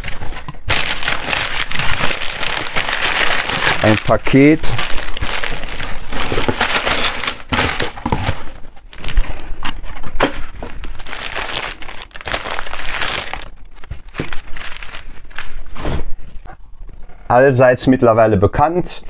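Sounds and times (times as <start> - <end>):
packing paper crinkling: 0.0 - 16.4.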